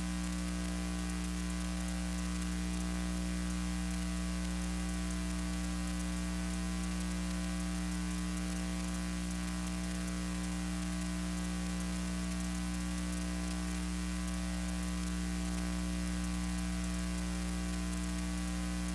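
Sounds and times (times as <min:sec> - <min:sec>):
constant hiss: 0:00.0 - 0:18.9
electrical mains hum: 0:00.0 - 0:18.9.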